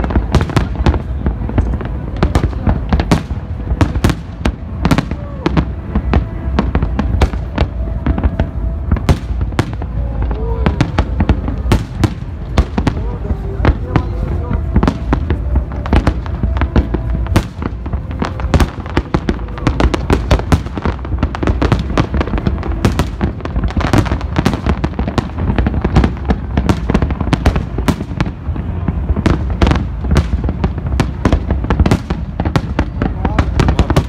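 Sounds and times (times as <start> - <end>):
fireworks bursting and crackling: 0.0 - 34.0
low rumble: 0.0 - 34.0.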